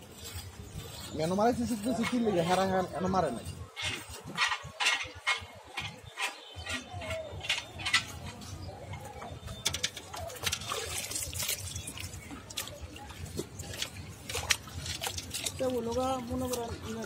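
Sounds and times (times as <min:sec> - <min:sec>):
water sloshing in bucket: 0:00.1 - 0:17.0.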